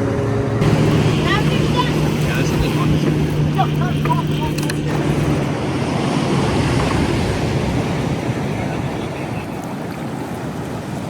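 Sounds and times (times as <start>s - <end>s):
ocean surf: 0.5s - 11.0s
wind buffeting microphone: 0.6s - 11.0s.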